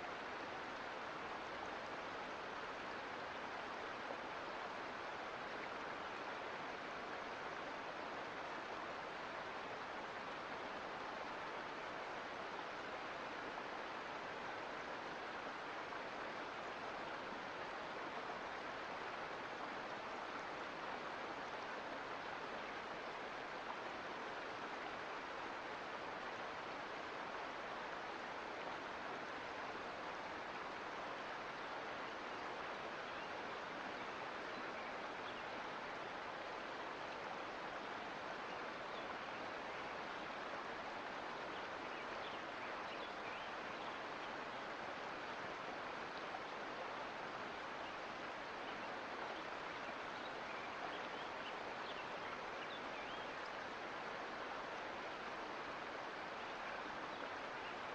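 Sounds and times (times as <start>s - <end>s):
creek water rushing over rocks: 0.0s - 57.9s.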